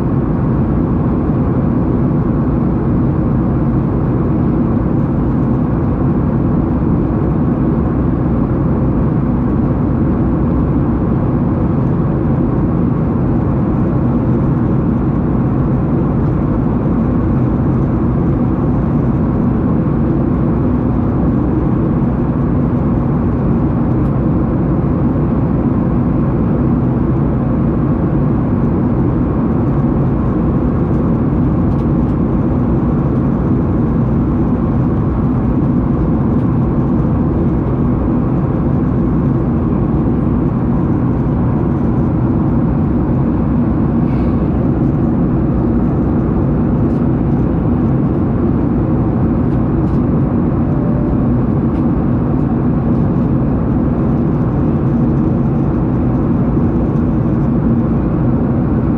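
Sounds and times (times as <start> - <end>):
jet cabin engine drone: 0.0 - 58.9.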